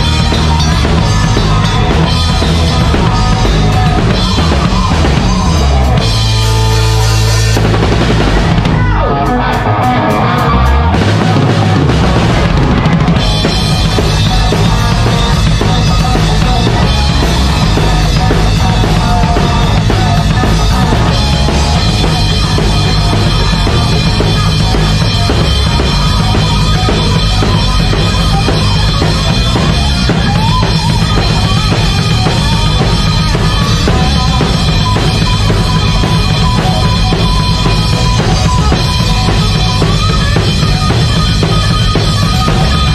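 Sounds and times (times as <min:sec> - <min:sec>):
distorted electric guitar: 0:00.0 - 0:42.9.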